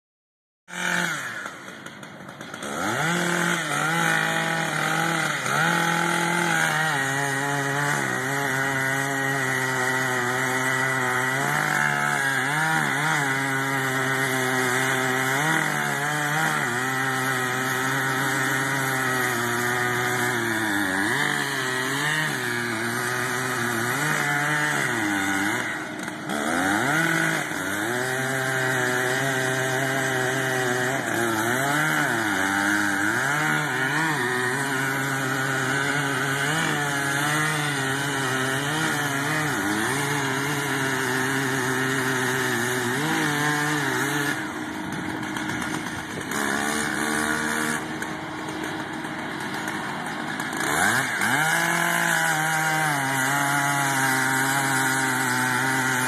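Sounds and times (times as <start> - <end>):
chainsaw cutting wood: 0.7 - 56.0.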